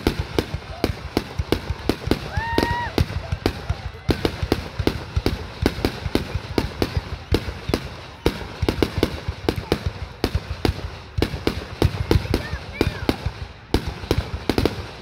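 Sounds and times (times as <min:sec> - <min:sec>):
fireworks booming and cracking: 0:00.0 - 0:15.0.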